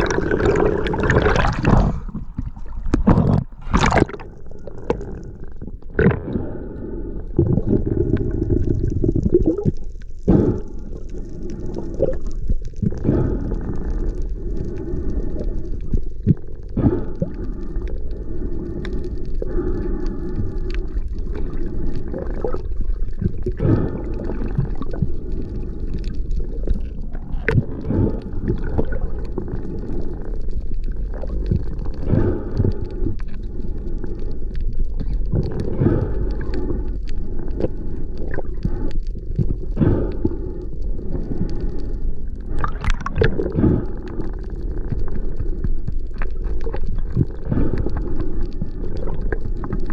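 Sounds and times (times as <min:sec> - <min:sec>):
underwater gurgles and knocks: 0:00.0 - 0:49.9
underwater water rush: 0:00.0 - 0:49.9.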